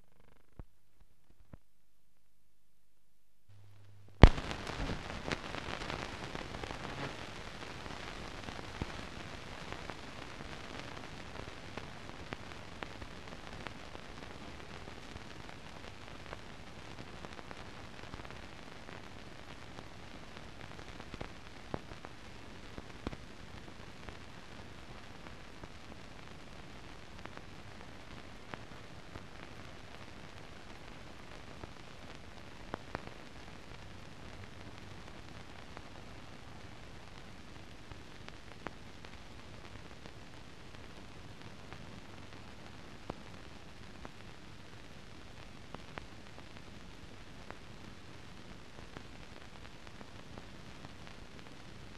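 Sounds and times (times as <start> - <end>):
film crackle and hiss: 0.0 - 1.6, 3.5 - 51.9.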